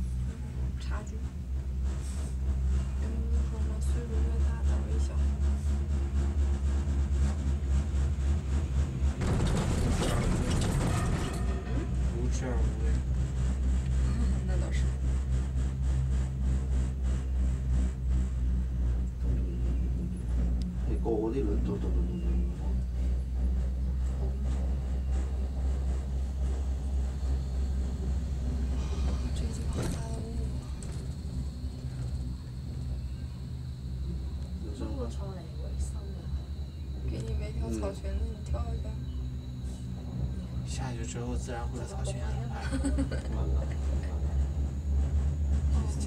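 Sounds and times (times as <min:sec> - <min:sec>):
cable car cabin hum: 0:00.0 - 0:46.0
gondola rumbling over rollers: 0:00.0 - 0:46.0.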